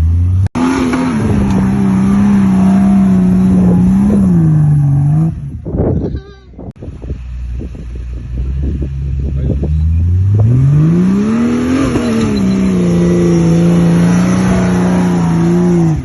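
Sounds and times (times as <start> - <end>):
car engine revving: 0.0 - 5.7, 7.0 - 16.0.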